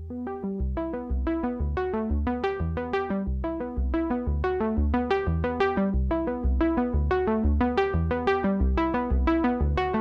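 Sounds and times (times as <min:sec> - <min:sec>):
bass line: 0:00.0 - 0:10.0.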